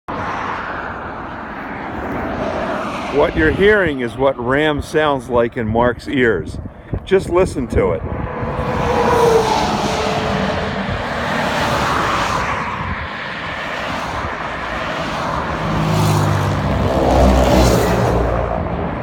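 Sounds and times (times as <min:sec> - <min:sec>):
vehicles passing close: 0:00.1 - 0:19.0
tyre and wind noise: 0:00.8 - 0:19.0.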